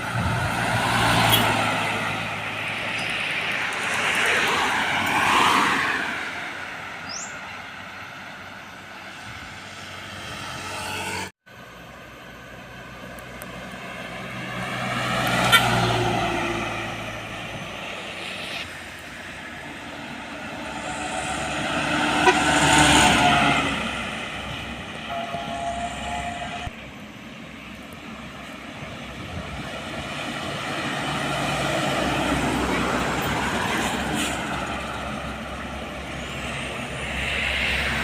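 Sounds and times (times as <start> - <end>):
vehicles passing close by: 0.0 - 38.0.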